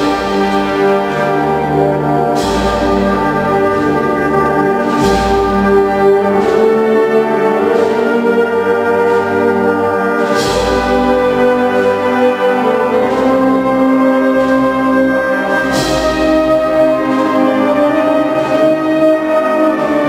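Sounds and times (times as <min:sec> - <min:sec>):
wind band sustained chords: 0:00.0 - 0:20.0.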